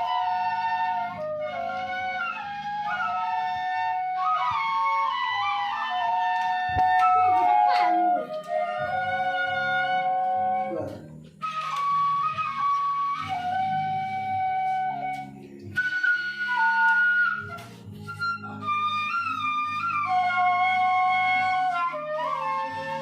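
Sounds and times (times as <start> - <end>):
bamboo flutes playing melody: 0.0 - 23.0.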